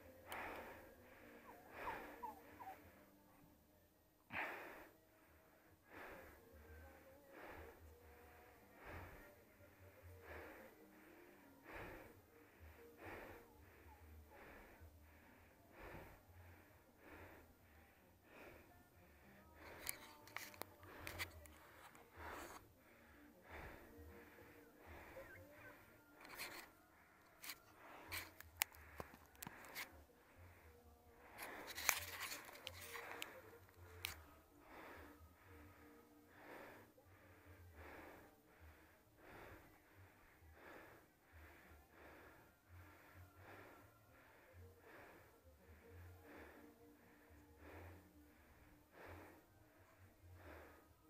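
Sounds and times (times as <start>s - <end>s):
person breathing hard: 0.0s - 3.6s, 4.2s - 51.0s.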